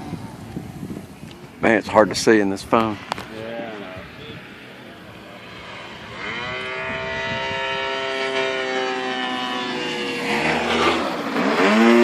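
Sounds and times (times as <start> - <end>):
model plane engine droning: 1.7 - 12.0.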